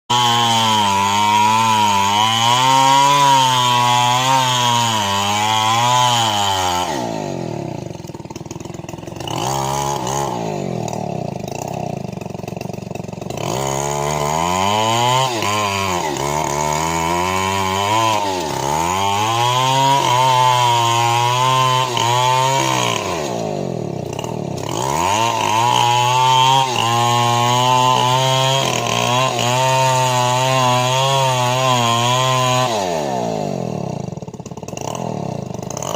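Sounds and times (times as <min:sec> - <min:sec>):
saw engine revving: 0:00.1 - 0:35.9.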